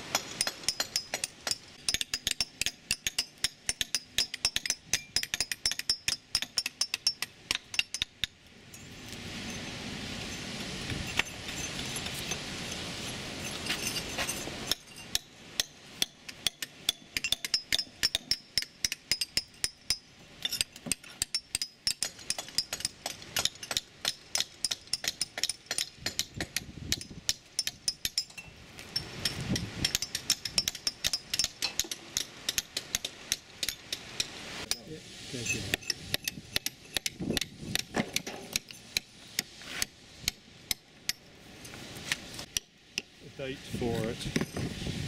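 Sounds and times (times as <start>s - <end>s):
hammers striking chisels on metal: 0.0s - 8.4s, 13.4s - 41.3s.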